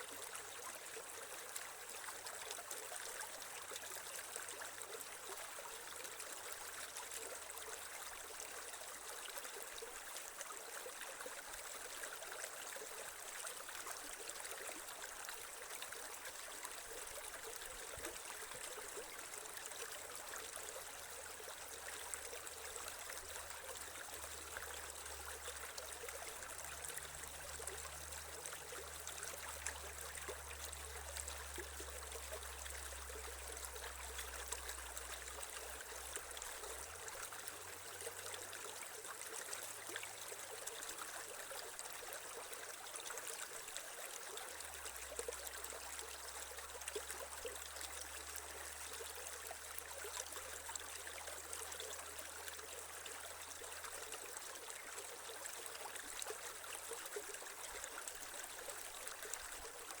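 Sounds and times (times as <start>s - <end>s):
creek trickling over stones: 0.0s - 60.0s.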